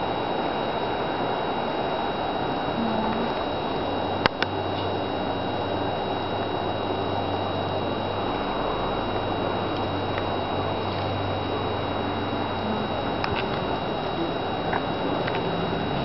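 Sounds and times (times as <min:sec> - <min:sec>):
steady hiss: 0:00.0 - 0:16.0
thin high whine: 0:00.0 - 0:16.0.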